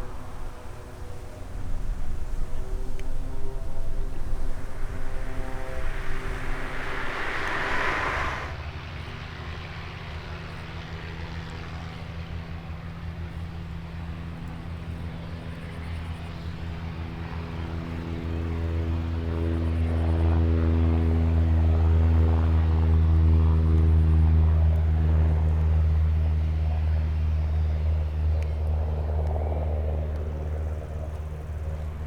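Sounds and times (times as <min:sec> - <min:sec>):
propeller aircraft engine running: 0:00.0 - 0:32.0.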